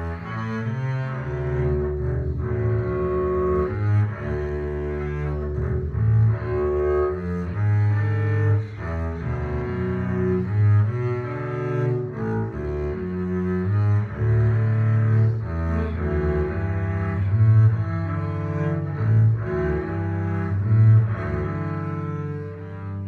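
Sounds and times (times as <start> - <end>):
bowed double bass: 0.0 - 23.0.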